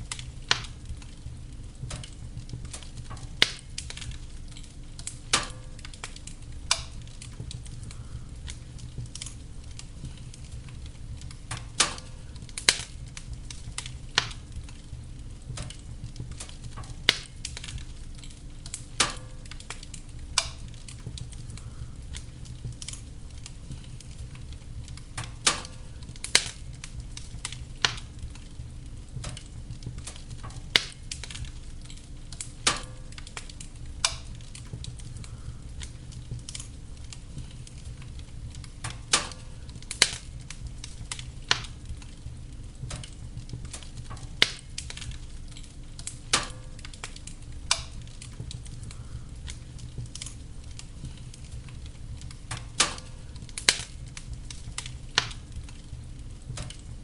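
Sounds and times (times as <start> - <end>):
burning logs crackling and popping: 0.0 - 57.0
fire flames rumbling: 0.0 - 57.0.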